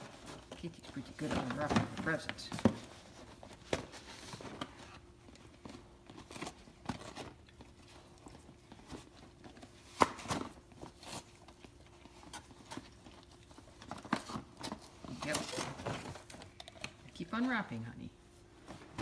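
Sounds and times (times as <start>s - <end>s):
dog tearing at package: 0.0s - 17.1s.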